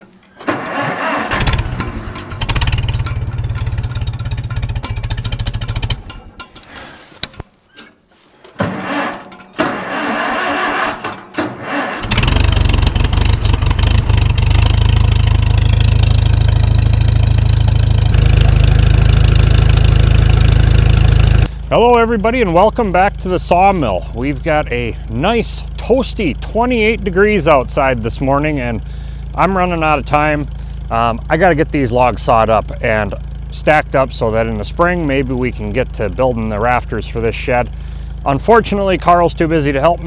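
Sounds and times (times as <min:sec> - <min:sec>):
tractor engine starting and sputtering: 0:00.0 - 0:40.0.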